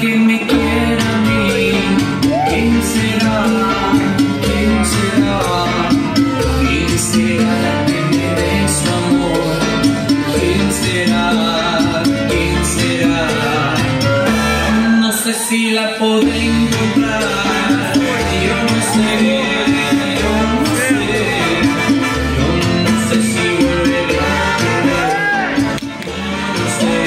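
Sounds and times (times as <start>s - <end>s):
cha-cha-cha dance music: 0.0s - 27.0s.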